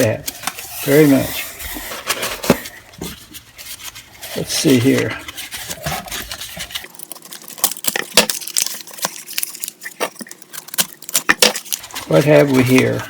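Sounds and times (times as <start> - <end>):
packing material crinkling and tearing: 2.1 - 13.0.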